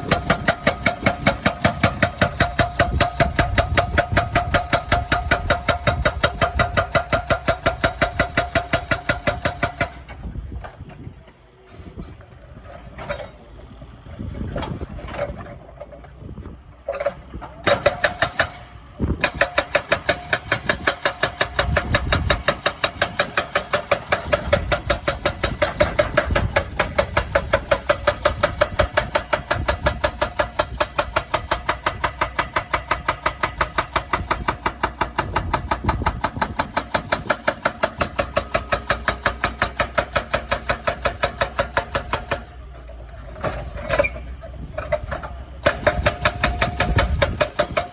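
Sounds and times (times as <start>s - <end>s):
hydraulic breaker hammering: 0.0s - 11.0s, 16.8s - 47.9s
excavator engine running: 0.0s - 47.9s.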